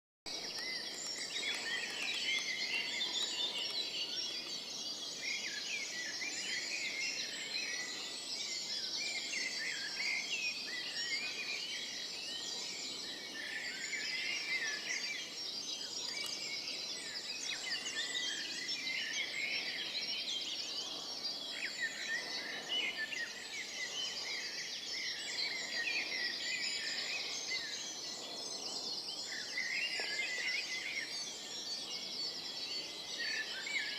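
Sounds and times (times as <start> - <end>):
songbirds singing: 0.3 - 33.9.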